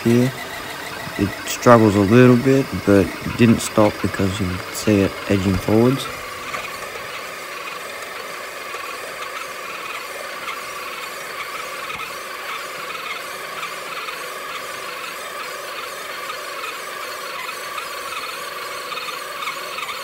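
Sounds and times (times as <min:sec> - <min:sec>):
electric motor and gearbox whining: 0:00.0 - 0:20.0.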